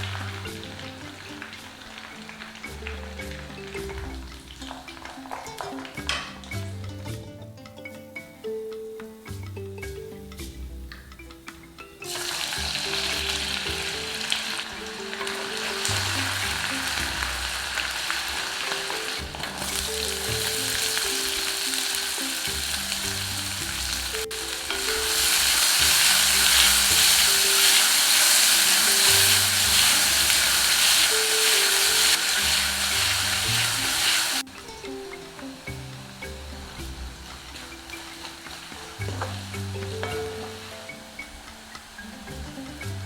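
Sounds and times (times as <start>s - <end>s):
food sizzling in a pan: 0.0s - 7.2s, 8.2s - 43.0s
stirring in a pan: 0.0s - 7.2s, 12.0s - 43.0s
soft background music: 0.0s - 43.0s.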